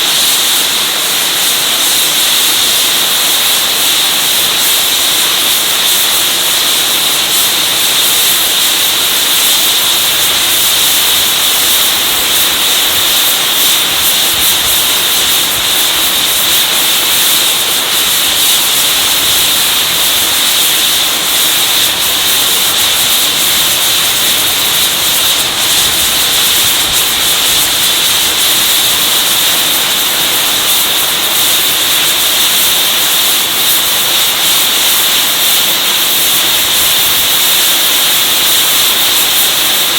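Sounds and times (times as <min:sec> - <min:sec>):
steam locomotive hissing steam: 0:00.0 - 0:39.9.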